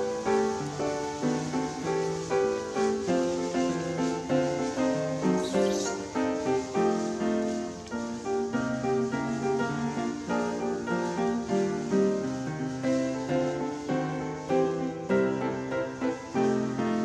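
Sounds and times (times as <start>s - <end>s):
instrumental music with held notes: 0.0s - 17.0s.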